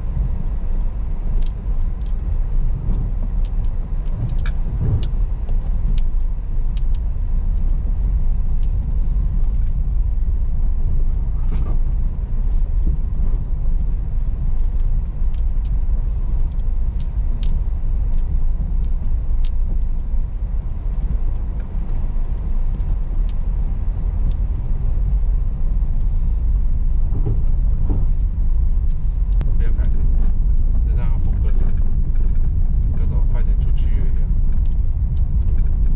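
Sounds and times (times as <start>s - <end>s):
tyres and engine rumbling: 0.0s - 35.9s.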